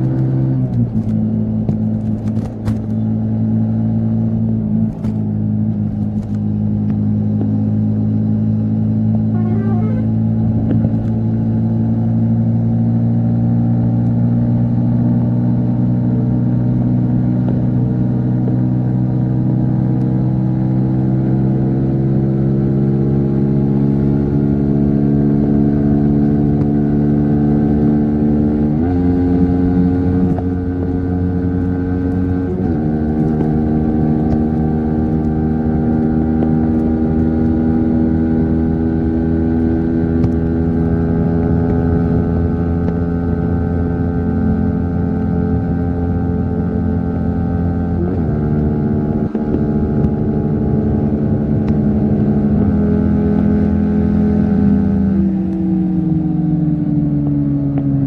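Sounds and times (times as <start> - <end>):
motorcycle engine at highway speed: 0.0 - 58.0.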